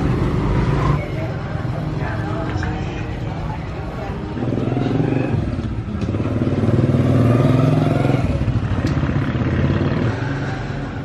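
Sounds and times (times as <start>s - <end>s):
motorbike engine passing: 0.0s - 11.0s
street traffic noise: 0.0s - 11.0s.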